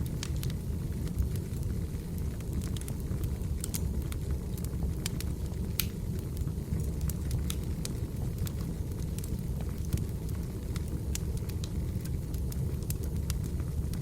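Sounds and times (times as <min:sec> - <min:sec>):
firewood crackling and popping: 0:00.0 - 0:14.0.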